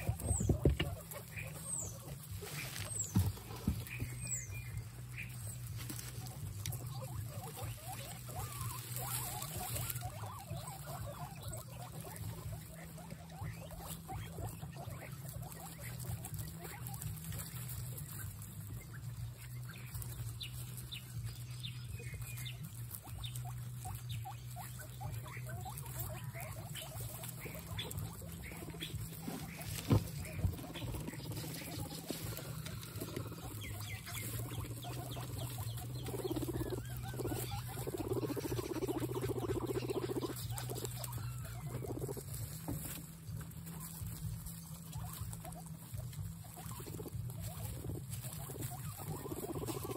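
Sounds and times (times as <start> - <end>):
guinea pig squeaks: 0.0 - 49.9
guinea pigs munching lettuce: 0.0 - 49.9.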